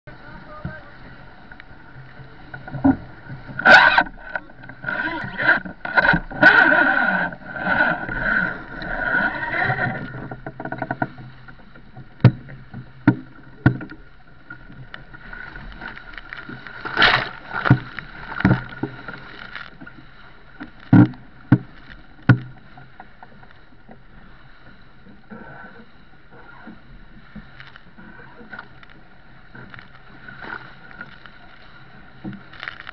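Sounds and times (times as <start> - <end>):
waves thumping against bow: 0.0 - 32.9
rush of wind and water: 0.1 - 32.9.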